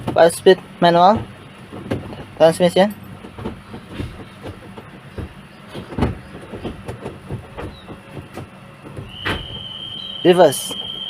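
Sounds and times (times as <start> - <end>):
gear lever clunking: 0.0 - 11.0
low engine hum: 0.0 - 11.0.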